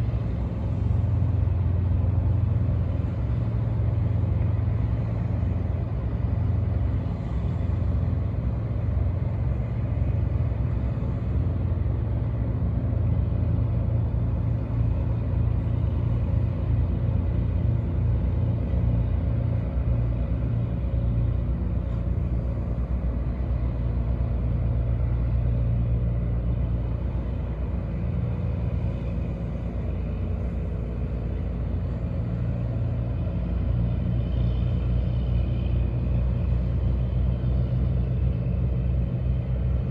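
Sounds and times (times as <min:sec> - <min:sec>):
boat diesel engines droning: 0:00.0 - 0:39.9.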